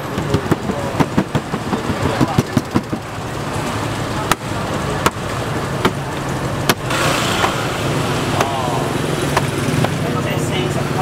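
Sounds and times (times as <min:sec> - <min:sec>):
street traffic hum: 0:00.0 - 0:11.0
vehicle passing: 0:00.0 - 0:11.0.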